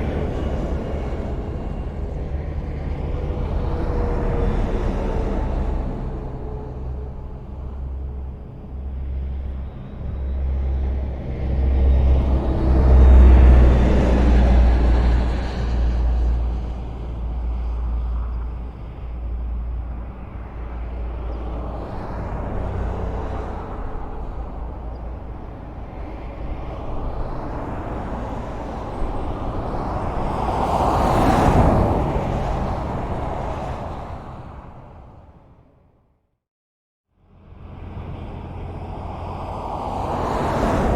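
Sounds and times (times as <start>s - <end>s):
highway traffic passing: 0.0s - 36.0s, 37.2s - 40.9s.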